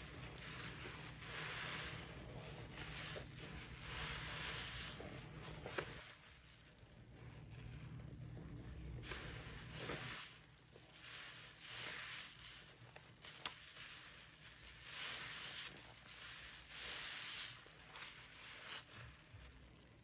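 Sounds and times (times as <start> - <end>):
sponge squishing in suds: 0.0 - 20.0.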